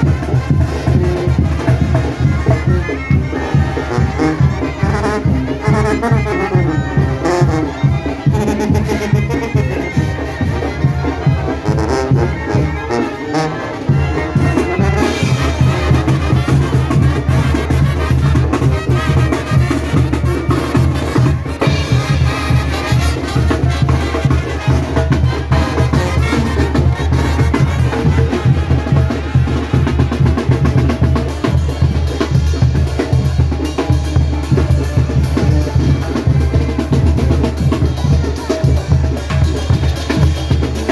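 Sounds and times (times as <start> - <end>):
brass band playing: 0.0 - 40.9.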